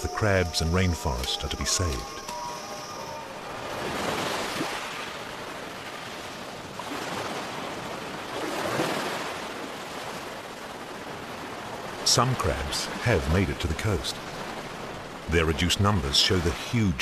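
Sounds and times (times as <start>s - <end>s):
sea waves washing ashore: 0.0s - 17.0s.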